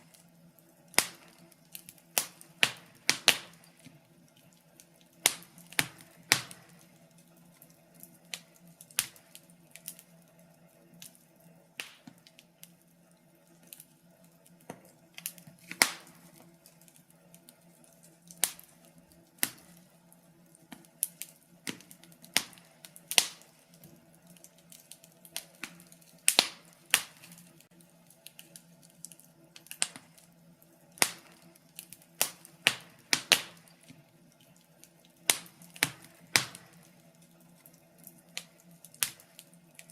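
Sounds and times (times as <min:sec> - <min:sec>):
burning logs popping: 0:00.0 - 0:39.9
wood fire crackling: 0:00.0 - 0:39.9.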